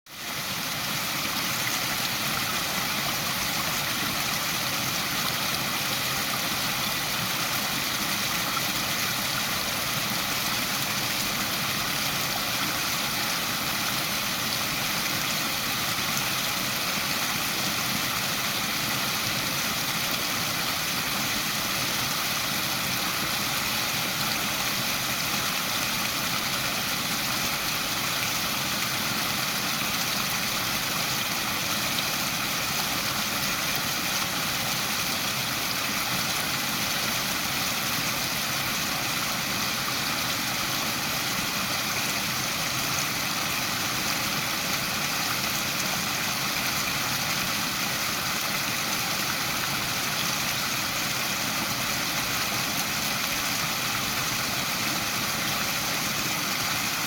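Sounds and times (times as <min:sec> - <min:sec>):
waterfall rushing: 0:00.1 - 0:57.0.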